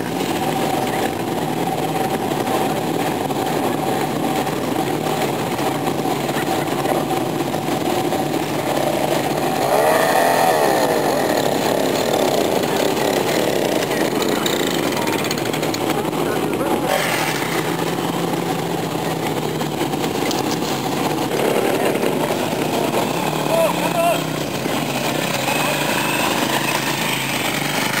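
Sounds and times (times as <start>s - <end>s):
motorcycle engines running: 0.0s - 28.0s
motorcycle pulling away: 0.0s - 28.0s.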